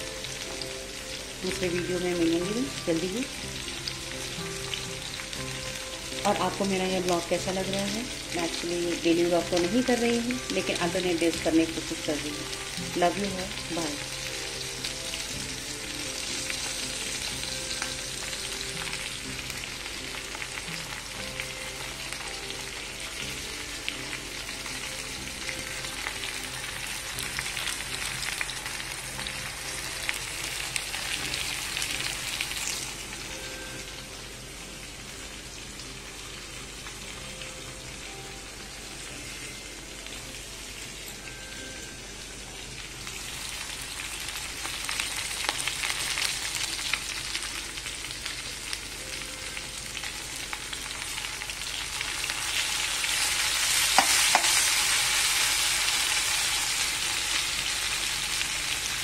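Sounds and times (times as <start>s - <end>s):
okra sizzling in oil: 0.0s - 59.0s.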